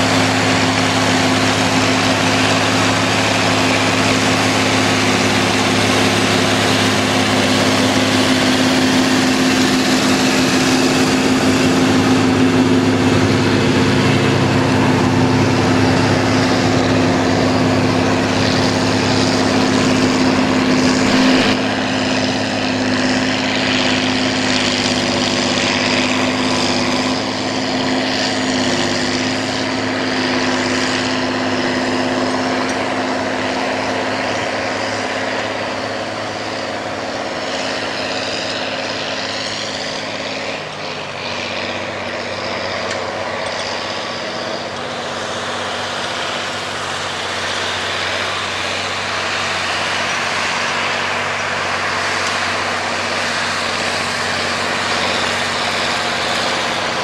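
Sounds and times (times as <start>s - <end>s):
cultivator working soil: 0.0s - 57.0s
tractor diesel engine under load: 0.0s - 57.0s.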